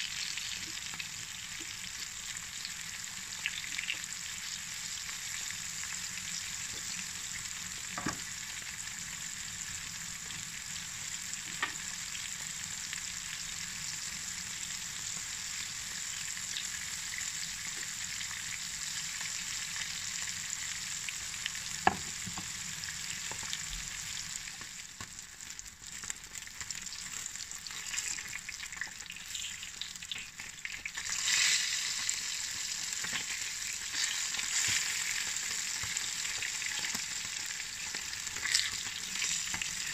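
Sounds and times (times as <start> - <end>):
fish sizzling in frying oil: 0.0 - 39.9.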